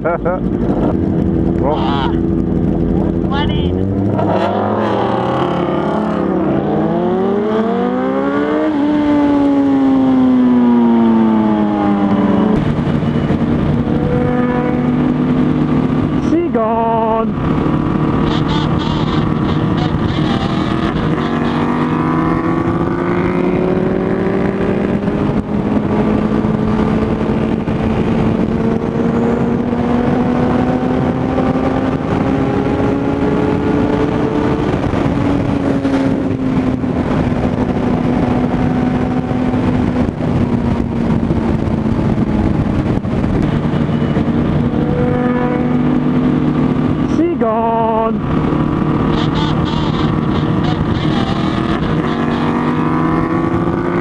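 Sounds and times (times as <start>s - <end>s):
sport bike engine at high revs: 0.0s - 54.0s.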